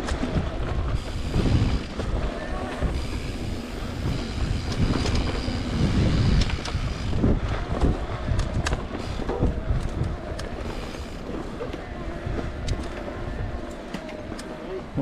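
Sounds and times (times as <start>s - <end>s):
bike rattling with clicks: 0.0s - 15.0s
wind on microphone: 0.0s - 15.0s.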